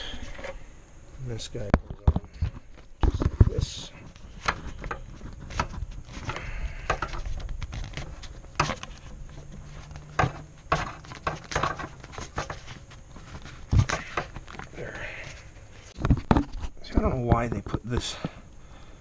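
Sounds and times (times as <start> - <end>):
rubber duct rubbing and creaking: 0.0 - 0.7, 1.3 - 18.3.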